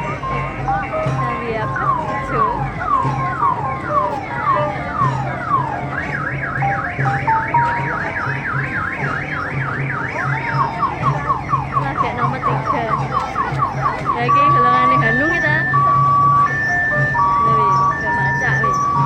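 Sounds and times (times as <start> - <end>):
electronic siren: 0.0 - 19.0.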